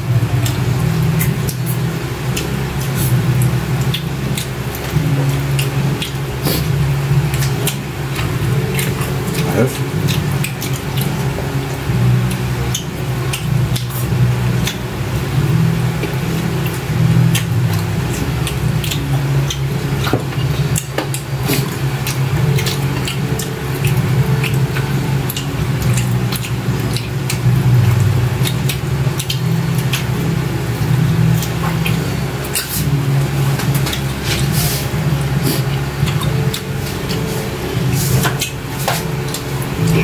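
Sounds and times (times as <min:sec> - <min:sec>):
loud low hum: 0:00.0 - 0:40.0
people chewing: 0:00.0 - 0:40.0.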